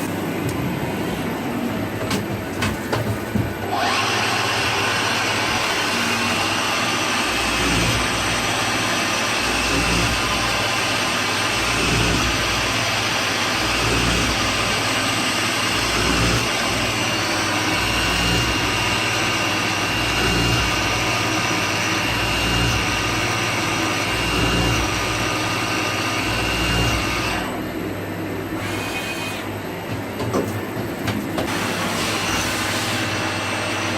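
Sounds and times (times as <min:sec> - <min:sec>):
machine hum and hiss: 0:00.0 - 0:33.9.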